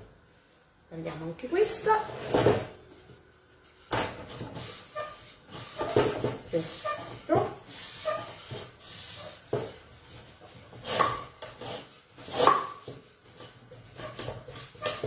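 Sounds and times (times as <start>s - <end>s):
wooden rolling pin rolling dough: 2.0s - 15.0s.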